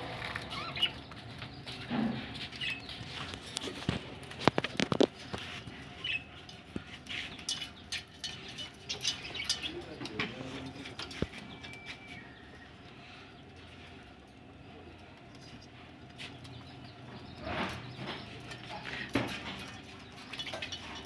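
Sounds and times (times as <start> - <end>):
budgerigars chirping and chattering: 0.0 - 3.9, 4.5 - 13.8, 16.2 - 20.4.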